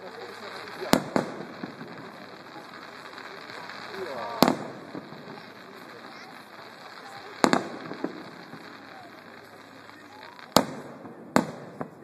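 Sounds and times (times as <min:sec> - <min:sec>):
distant firework bangs: 0:00.0 - 0:12.0.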